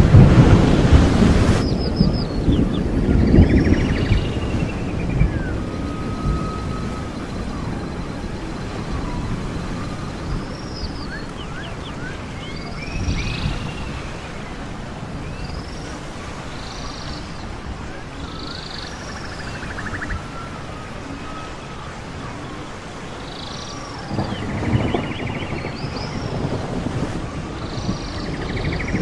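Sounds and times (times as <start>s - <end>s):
low rumbling noise: 0.0s - 29.0s.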